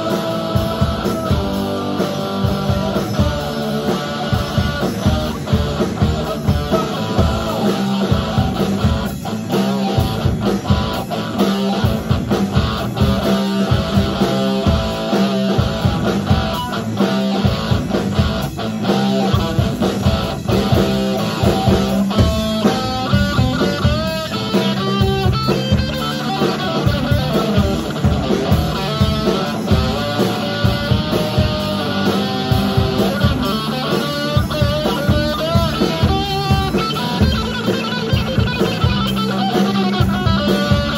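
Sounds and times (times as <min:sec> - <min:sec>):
bending guitar lead notes: 0:00.0 - 0:40.9
live rock band playing: 0:00.0 - 0:40.9.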